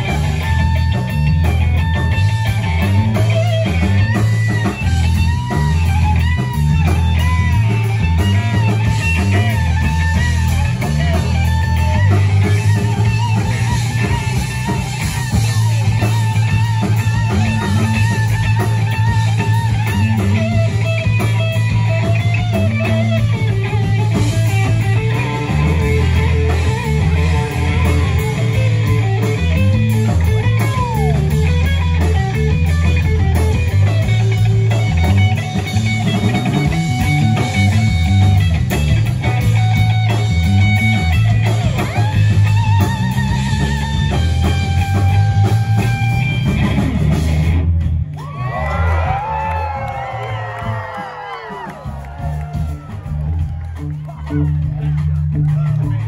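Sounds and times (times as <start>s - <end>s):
bass guitar: 0.0s - 56.0s
drum kit: 0.0s - 56.0s
electric guitar lead with bends: 0.0s - 56.0s.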